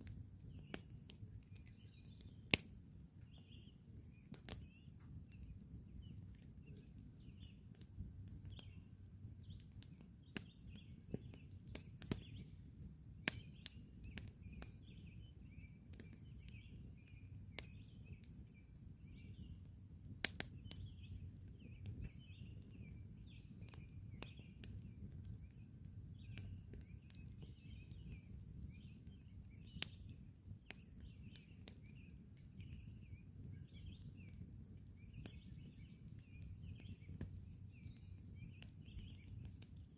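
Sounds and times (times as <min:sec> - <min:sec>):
birds chirping: 0:00.0 - 0:39.9
campfire crackling and popping: 0:00.0 - 0:39.9.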